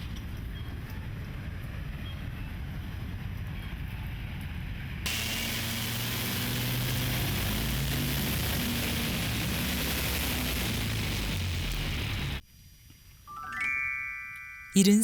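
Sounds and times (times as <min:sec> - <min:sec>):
low rumbling vehicle noise: 0:00.0 - 0:12.4.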